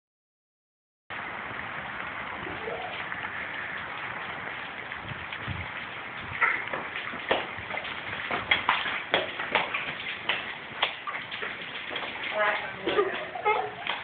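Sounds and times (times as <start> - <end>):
rain falling and dripping: 1.1 - 14.0.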